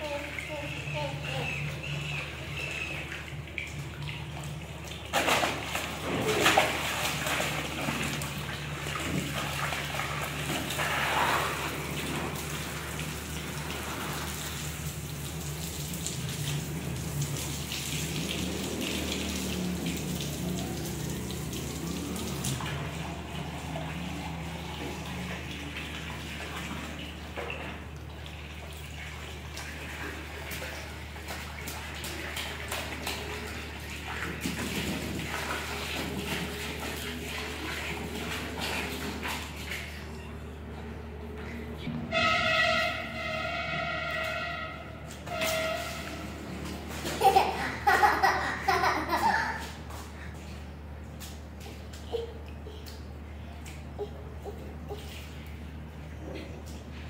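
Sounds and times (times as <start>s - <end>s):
hose water splashing on tiles: 0.0s - 40.2s, 41.4s - 57.0s.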